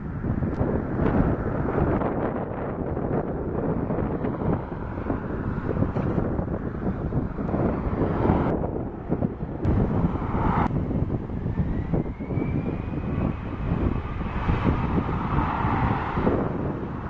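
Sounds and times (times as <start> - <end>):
faint high engine whine: 0.0 - 17.0
jet engine rumble: 0.0 - 17.0.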